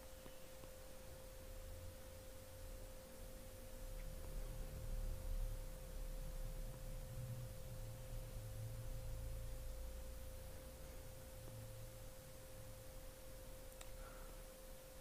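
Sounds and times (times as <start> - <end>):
faint steady tone: 0.0 - 15.0
low electrical hum: 0.0 - 15.0.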